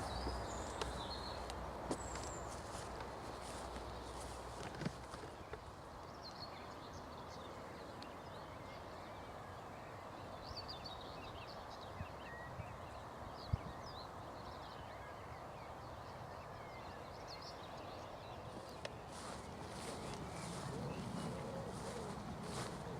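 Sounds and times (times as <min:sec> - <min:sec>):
faint songbirds chirping: 0:00.0 - 0:22.9.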